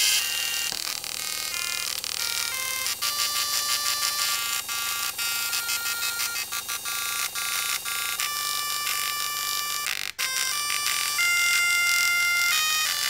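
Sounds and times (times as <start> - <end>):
dot matrix printer melody: 0.0 - 13.0.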